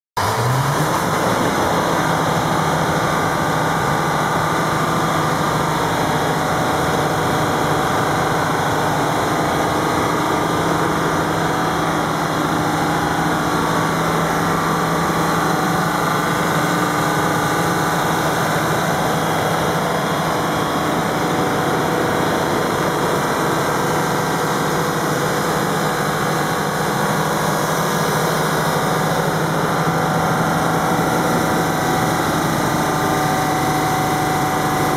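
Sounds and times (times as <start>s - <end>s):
diesel generator running: 0.2s - 34.9s.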